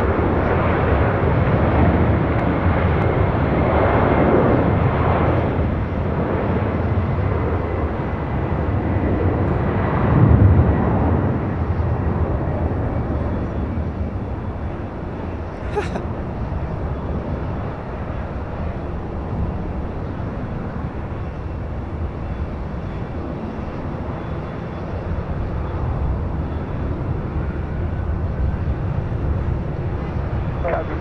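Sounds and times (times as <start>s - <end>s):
jet engines at takeoff power: 0.0s - 31.0s.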